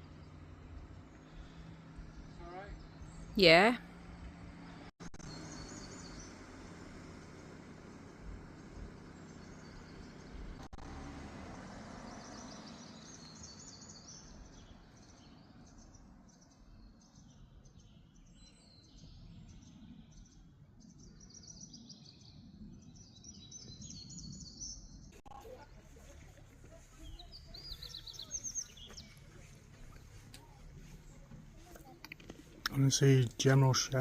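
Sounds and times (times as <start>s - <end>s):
small birds chirping and trilling: 0.0s - 3.4s, 5.2s - 10.7s, 12.1s - 34.0s
low outdoor rumble: 0.0s - 21.4s, 22.2s - 34.0s.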